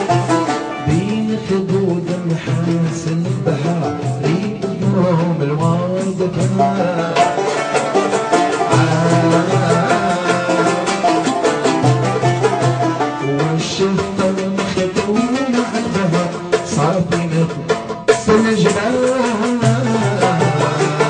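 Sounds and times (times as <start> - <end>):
plucked mandole and banjo melody: 0.0 - 21.0
steady beat: 0.0 - 21.0.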